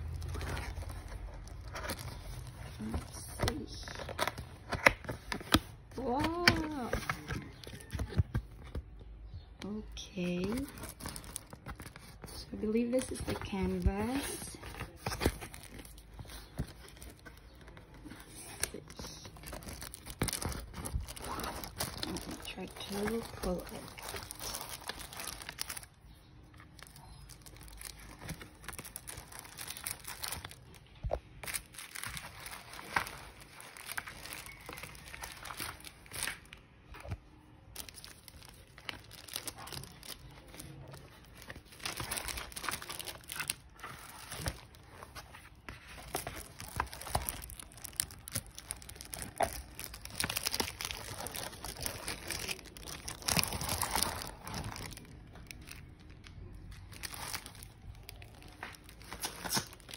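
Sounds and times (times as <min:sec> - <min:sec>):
cardboard rustling: 0:00.0 - 0:09.1, 0:10.2 - 0:59.9
plastic shrink wrap crinkling: 0:00.0 - 0:59.9.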